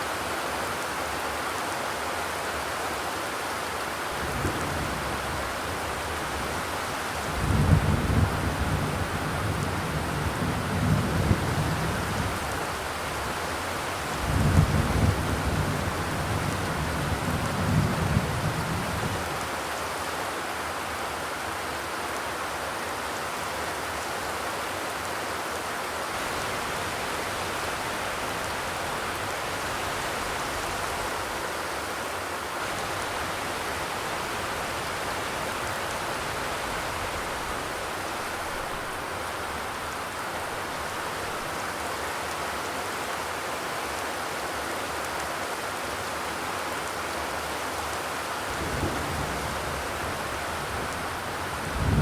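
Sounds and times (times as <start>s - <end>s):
rain on a metal roof: 0.0s - 52.0s.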